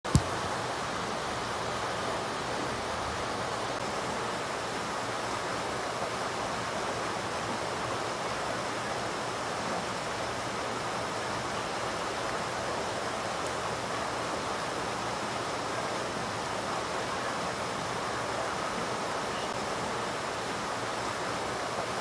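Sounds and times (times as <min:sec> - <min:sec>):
stream rushing over rocks: 0:00.1 - 0:22.0.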